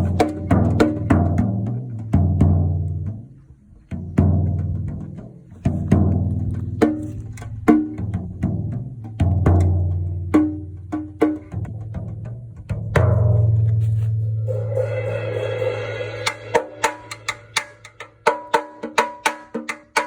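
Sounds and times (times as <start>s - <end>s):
drums played in loose rhythm: 0.0s - 2.8s, 4.0s - 20.0s.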